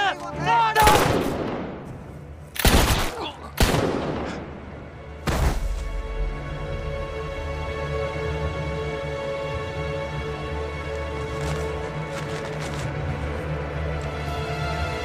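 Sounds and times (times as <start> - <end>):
steady music: 0.0 - 15.0.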